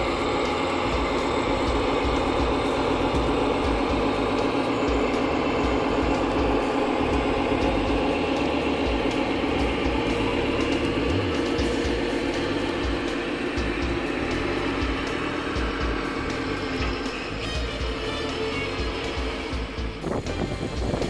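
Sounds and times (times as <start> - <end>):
model trucks whirring: 0.0 - 21.0.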